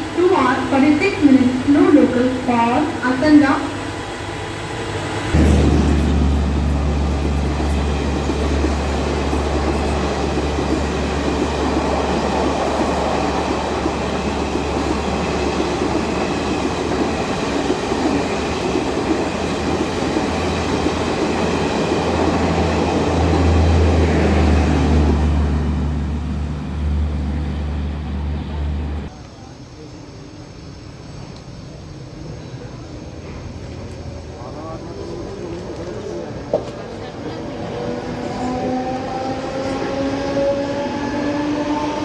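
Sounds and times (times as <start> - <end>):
electric train rumbling: 0.0 - 42.0.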